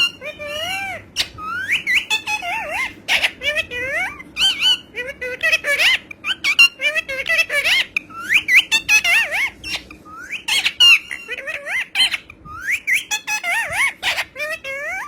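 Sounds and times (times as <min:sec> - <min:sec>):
parrot chattering and squawking: 0:00.0 - 0:15.0.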